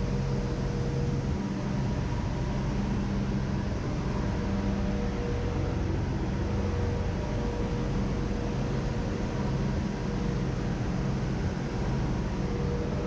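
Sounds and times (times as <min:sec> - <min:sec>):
engine room machinery hum: 0:00.0 - 0:13.0.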